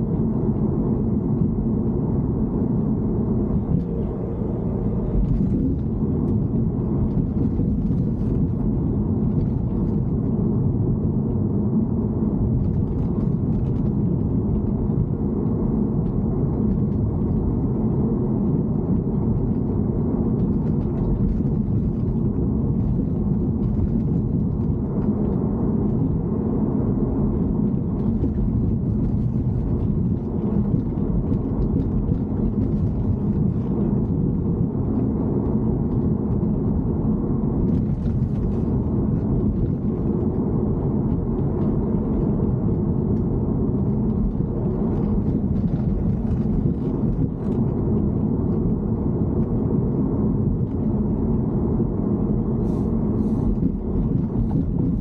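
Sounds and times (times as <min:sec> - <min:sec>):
car engine low rumble: 0:00.0 - 0:55.0.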